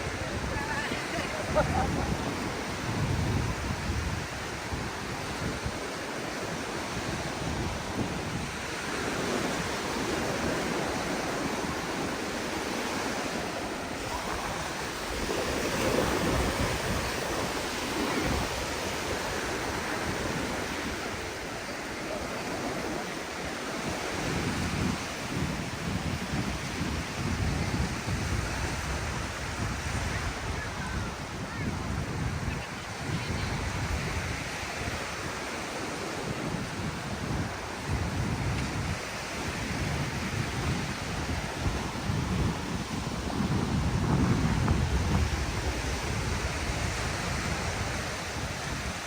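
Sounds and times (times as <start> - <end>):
surf washing onto beach: 0.0 - 49.0
wind buffeting microphone: 0.0 - 49.0.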